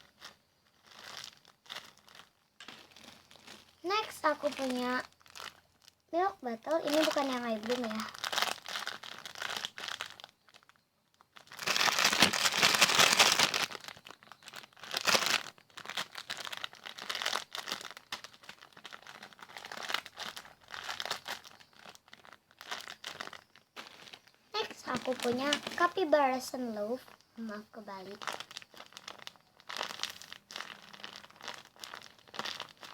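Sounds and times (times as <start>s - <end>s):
plastic bag crinkling: 0.0s - 32.9s.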